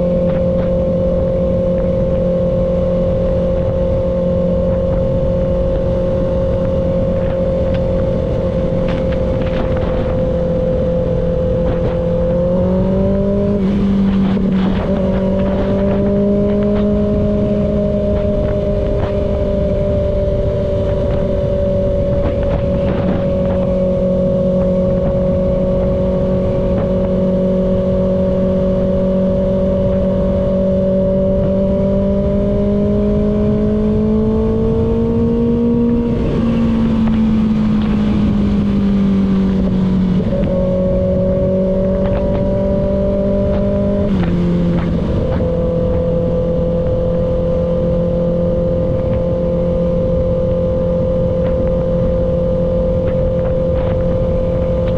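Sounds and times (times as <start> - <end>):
motorcycle engine cruising: 0.0 - 54.9
rushing wind noise: 0.0 - 54.9.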